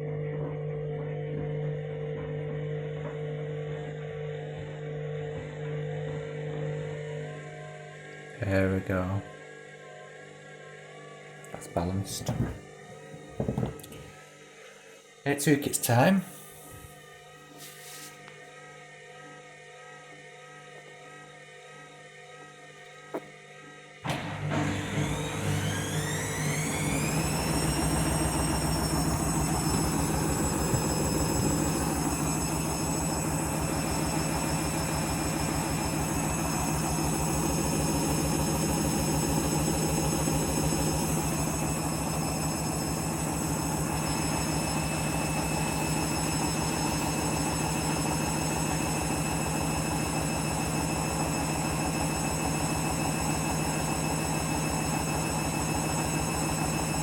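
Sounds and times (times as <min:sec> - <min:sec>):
washing machine motor whine: 0:00.0 - 0:57.0.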